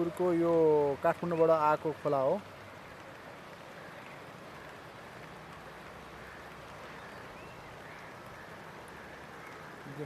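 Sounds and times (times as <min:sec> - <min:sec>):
flood river rushing: 0:00.0 - 0:10.0.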